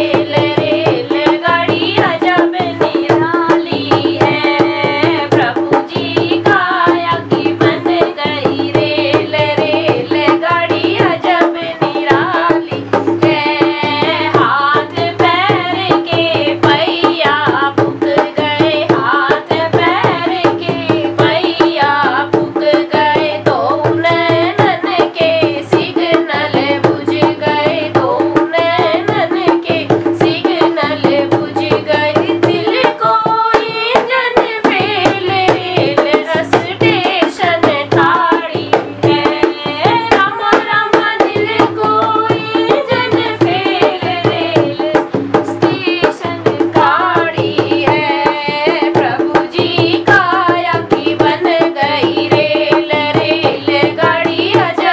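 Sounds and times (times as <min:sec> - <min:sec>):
girl singing: 0:00.0 - 0:54.9
hand drum rhythm: 0:00.0 - 0:54.9.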